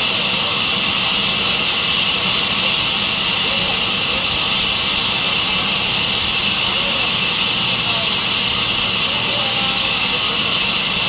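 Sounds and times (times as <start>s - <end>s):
band saw high-pitched hiss: 0.0s - 11.0s.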